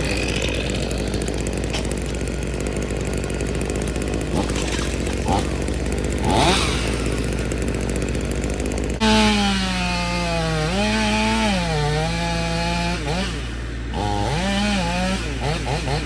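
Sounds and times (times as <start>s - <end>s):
chainsaw cutting through tree: 0.0s - 16.0s.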